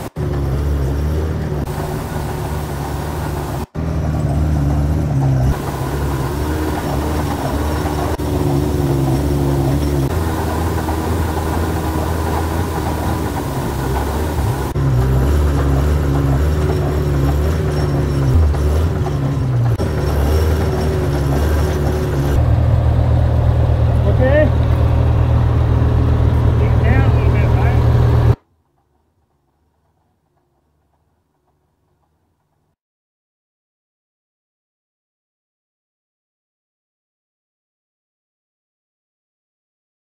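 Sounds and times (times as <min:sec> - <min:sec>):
engine rumbling: 0:00.0 - 0:32.8.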